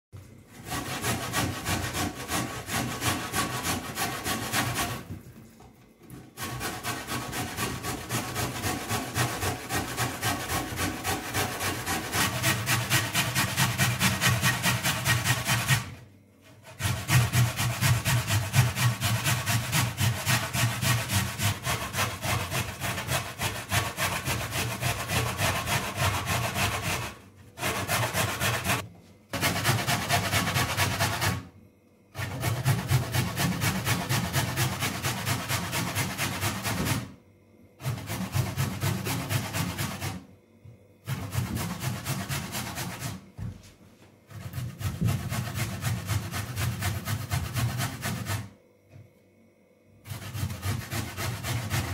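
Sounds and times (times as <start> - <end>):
carrot rasping on metal grater: 0.5 - 5.1, 6.4 - 31.5, 32.1 - 37.1, 37.8 - 40.3, 41.0 - 43.2, 44.3 - 48.6, 50.0 - 51.9.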